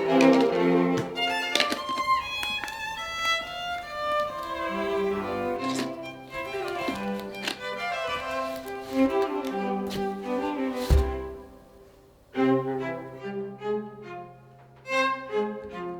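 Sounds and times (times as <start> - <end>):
string music with violin: 0.0 - 11.6, 12.3 - 15.9.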